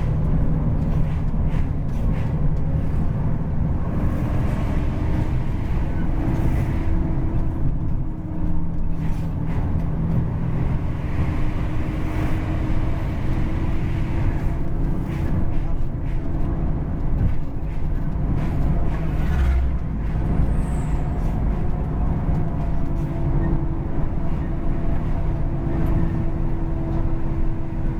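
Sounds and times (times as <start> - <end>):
bus engine and road drone: 0.0 - 27.9.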